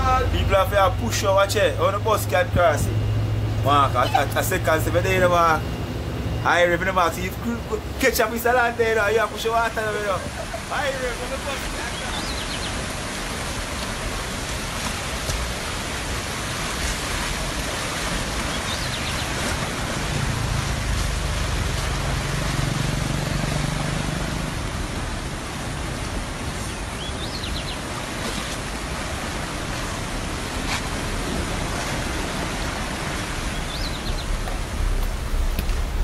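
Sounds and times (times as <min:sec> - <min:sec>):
low hum: 0:00.0 - 0:27.1, 0:27.9 - 0:36.0
floodwater rushing in river: 0:00.0 - 0:36.0.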